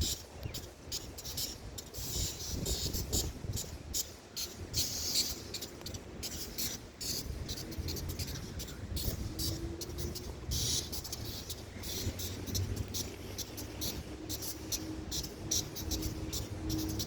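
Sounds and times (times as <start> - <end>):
high-pitched hissing or chirping: 1.0 - 17.0.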